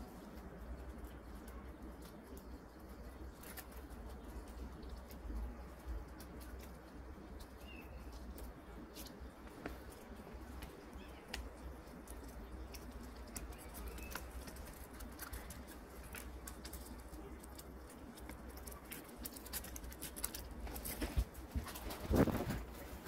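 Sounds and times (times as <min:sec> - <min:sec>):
paper crinkling and folding: 0:00.0 - 0:23.0.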